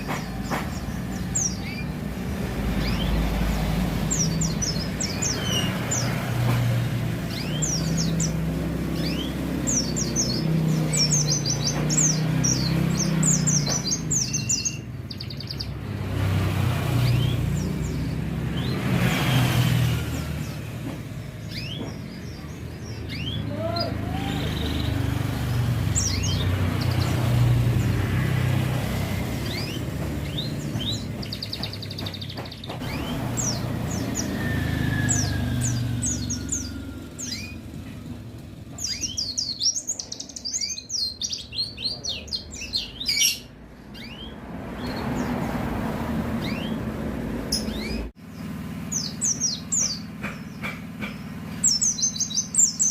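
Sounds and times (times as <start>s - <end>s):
bird chirping: 0.0s - 52.9s
road traffic rumble: 0.0s - 52.9s.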